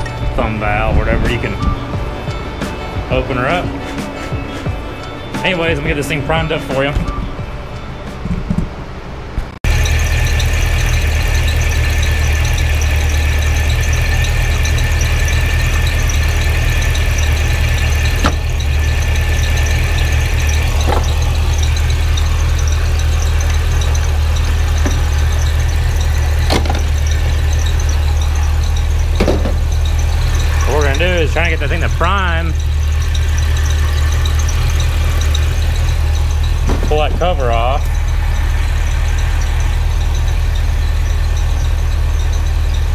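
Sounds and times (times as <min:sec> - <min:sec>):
supercharged car engine running: 0:00.0 - 0:42.9.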